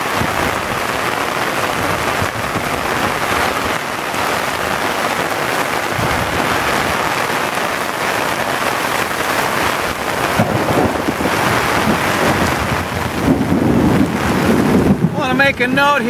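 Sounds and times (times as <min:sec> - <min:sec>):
torrential rain on street: 0:00.0 - 0:16.0.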